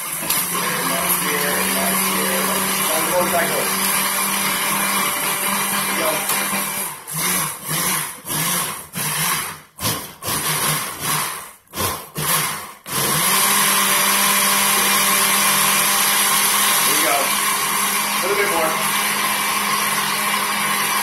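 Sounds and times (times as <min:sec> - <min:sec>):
blender running: 0:00.0 - 0:21.0.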